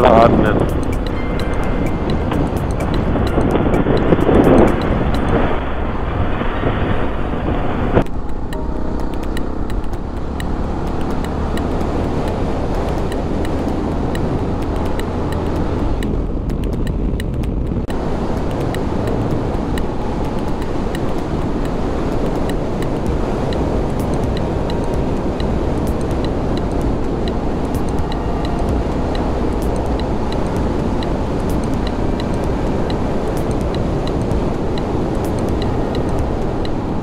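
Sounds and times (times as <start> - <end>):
motorcycle engine rumble: 0.0 - 37.0
wind rush on microphone: 0.0 - 37.0.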